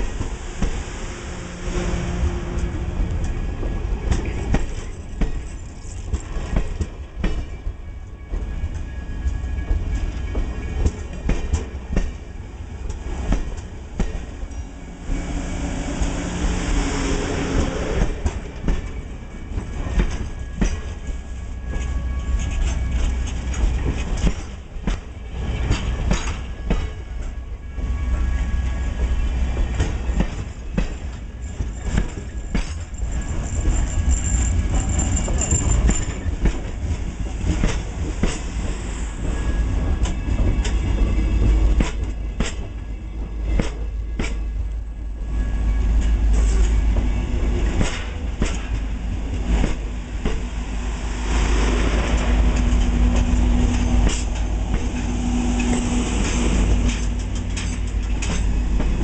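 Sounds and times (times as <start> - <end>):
low train rumble: 0.0 - 59.0
train wheels clacking: 1.8 - 27.4, 28.8 - 44.9, 45.8 - 59.0.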